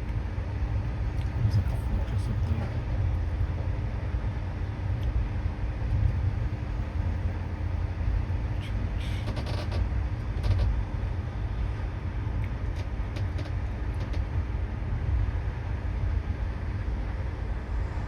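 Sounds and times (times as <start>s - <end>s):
constant hum: 0.0s - 18.0s
vehicle rumble from inside: 0.0s - 18.0s.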